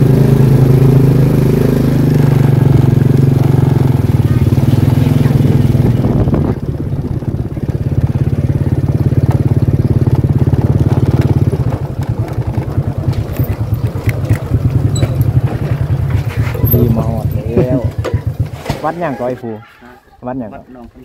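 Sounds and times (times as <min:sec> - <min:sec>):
small motorcycle engine idling: 0:00.0 - 0:19.4.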